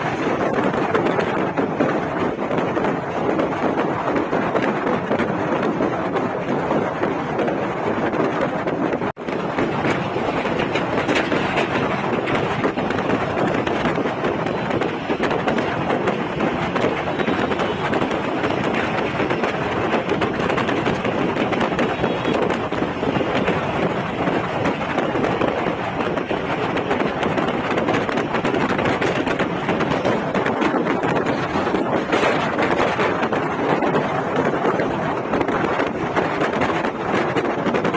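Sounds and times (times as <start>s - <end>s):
highway traffic noise: 0.0s - 37.9s.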